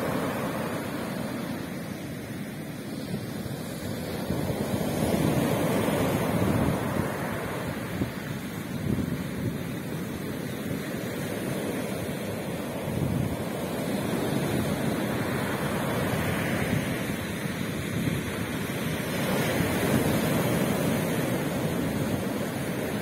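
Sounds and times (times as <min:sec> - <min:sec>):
sea waves breaking on beach: 0:00.0 - 0:23.0.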